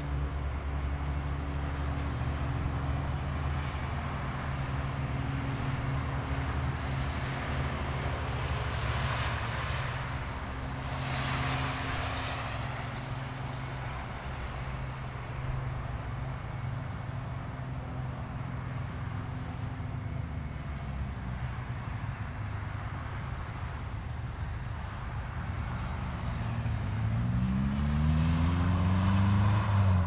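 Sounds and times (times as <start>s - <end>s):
steady low traffic hum: 0.0s - 30.0s
vehicles passing: 0.0s - 30.0s.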